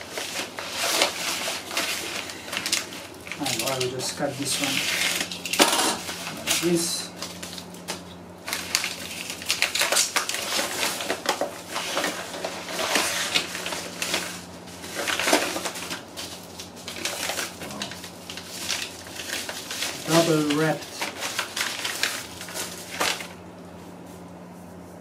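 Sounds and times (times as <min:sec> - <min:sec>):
paper envelopes rustling and crinkling: 0:00.0 - 0:24.9
steady low hum: 0:00.0 - 0:25.0.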